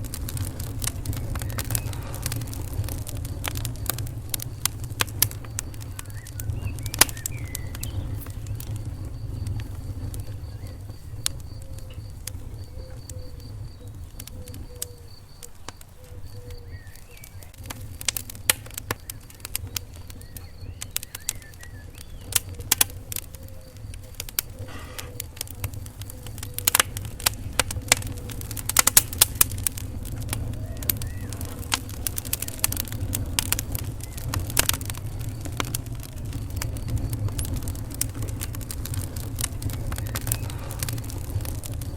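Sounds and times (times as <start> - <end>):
low rumble of flames: 0.0 - 41.9
sharp pops and snaps: 0.0 - 41.9
wood fire crackling: 0.0 - 41.9.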